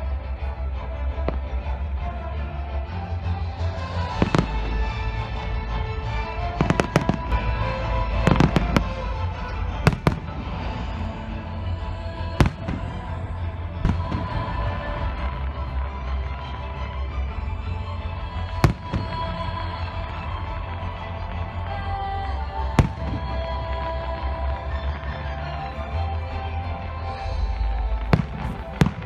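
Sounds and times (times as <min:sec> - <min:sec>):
music playing: 0:00.0 - 0:29.0.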